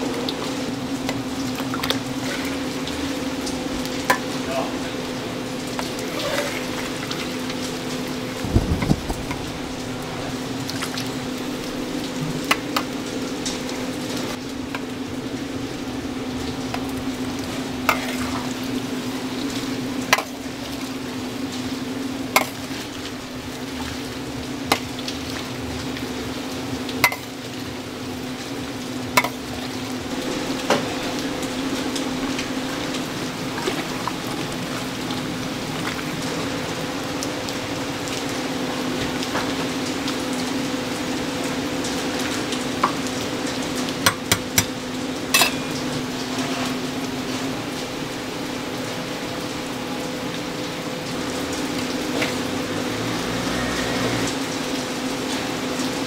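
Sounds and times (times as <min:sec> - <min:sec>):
deep-frying sizzle: 0:00.0 - 0:56.0.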